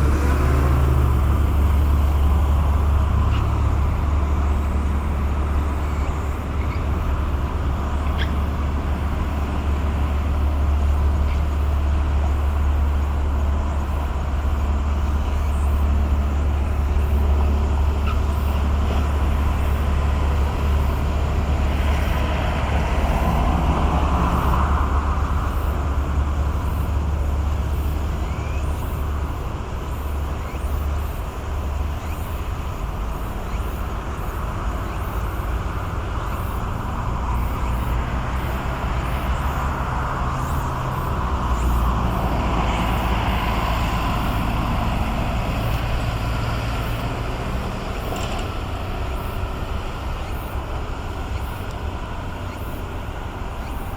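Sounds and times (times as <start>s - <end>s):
tugboat diesel engine droning: 0.0s - 53.9s.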